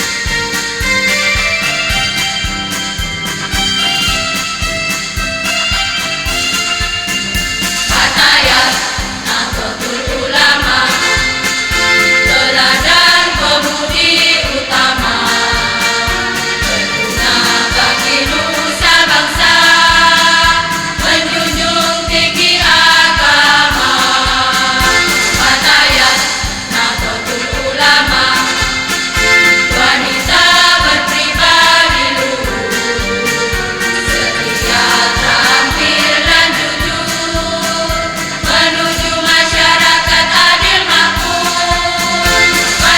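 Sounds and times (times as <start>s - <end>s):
women's choir singing: 7.6s - 42.9s.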